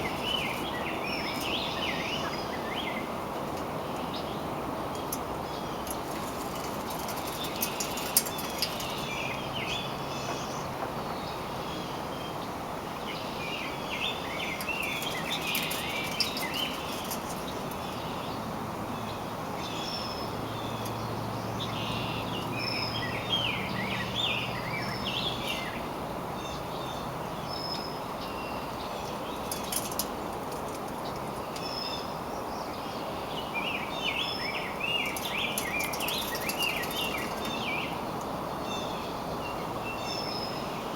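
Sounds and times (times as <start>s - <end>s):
birds chirping: 0.0s - 40.9s
outdoor background hiss: 0.0s - 40.9s.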